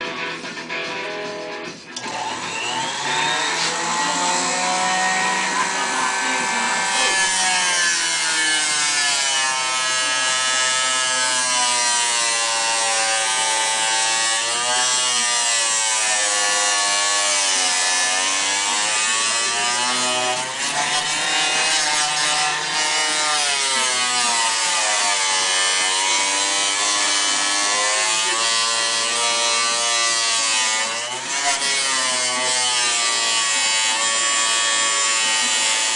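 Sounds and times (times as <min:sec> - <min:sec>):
table saw motor whine: 0:02.0 - 0:35.9.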